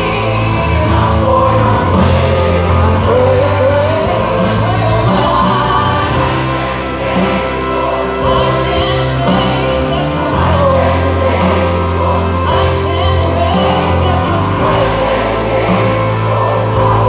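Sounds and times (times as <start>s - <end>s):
choir singing worship song: 0.0s - 17.0s
instrumental accompaniment with bass: 0.0s - 17.0s.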